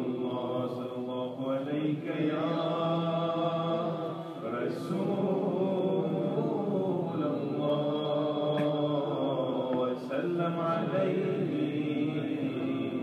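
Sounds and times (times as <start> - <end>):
person chanting without instruments: 0.0 - 13.0.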